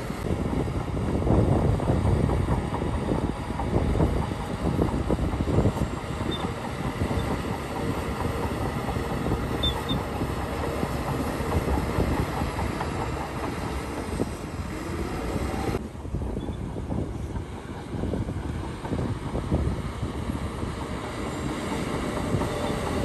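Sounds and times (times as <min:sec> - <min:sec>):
bulldozer diesel engine running: 0:00.0 - 0:23.0
steel tracks clattering: 0:00.0 - 0:23.0.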